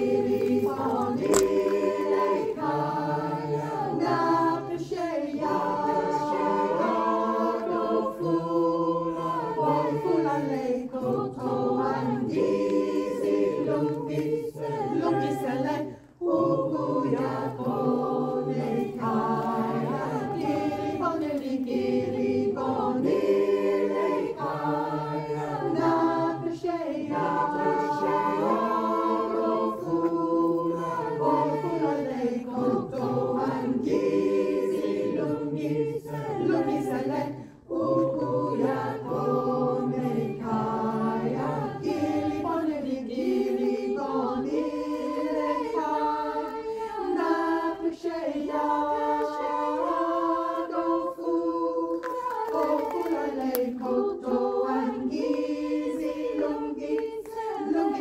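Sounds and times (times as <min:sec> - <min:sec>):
mixed choir singing unaccompanied: 0:00.0 - 0:58.0.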